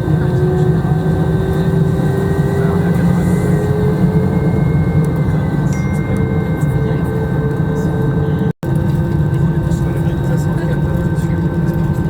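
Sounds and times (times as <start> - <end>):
jet engines droning: 0.0 - 12.0
thin engine whine: 0.0 - 12.0.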